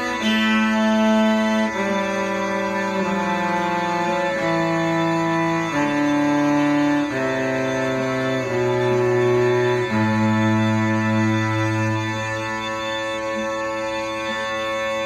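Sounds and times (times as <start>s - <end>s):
bowed cello sustained notes: 0.0s - 15.0s.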